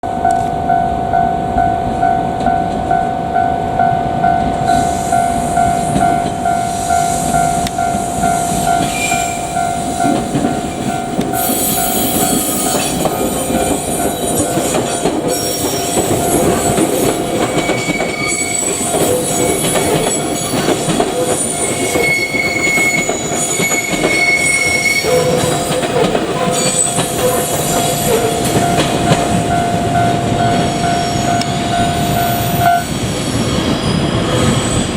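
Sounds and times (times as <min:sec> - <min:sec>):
electric train rolling: 0:00.0 - 0:34.9.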